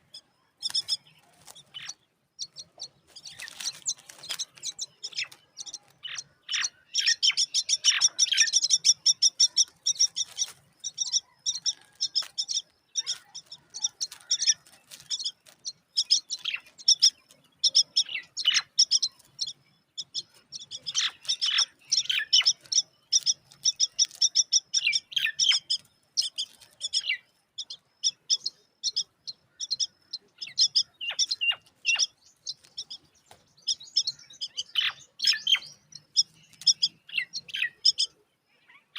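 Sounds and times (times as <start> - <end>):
birds chirping high notes: 0.0 - 38.9.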